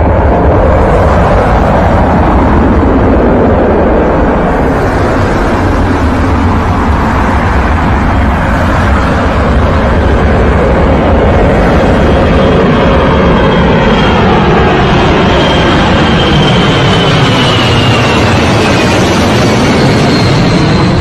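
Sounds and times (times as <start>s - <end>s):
aircraft rumble: 0.0s - 21.0s.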